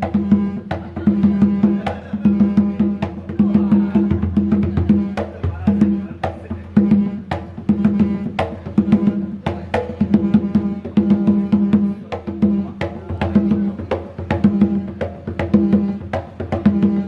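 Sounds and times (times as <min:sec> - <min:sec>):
fast percussion strikes: 0:00.0 - 0:17.0
ringing drum tone: 0:00.0 - 0:17.0.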